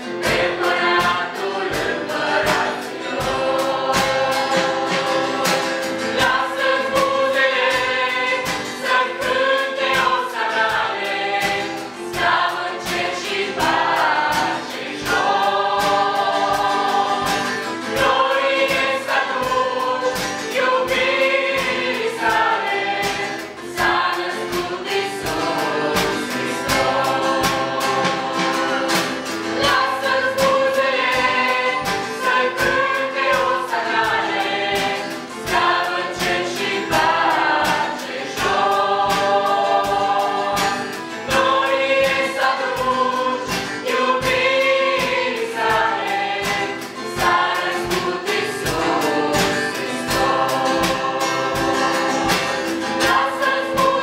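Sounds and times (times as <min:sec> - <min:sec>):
mixed choir singing: 0:00.0 - 0:54.0
strummed acoustic guitar: 0:00.0 - 0:54.0.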